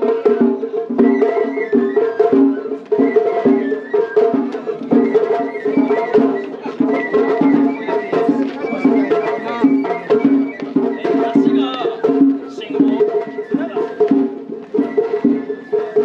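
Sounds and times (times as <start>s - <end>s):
clacking percussion and drums: 0.0s - 16.0s
festival music melody: 2.7s - 16.0s.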